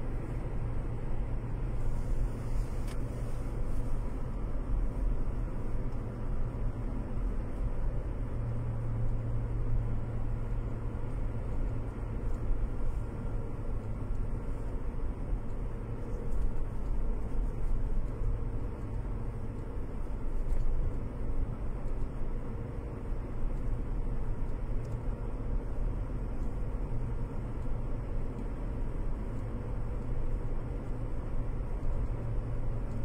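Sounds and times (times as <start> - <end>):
car interior road rumble: 0.0 - 33.0.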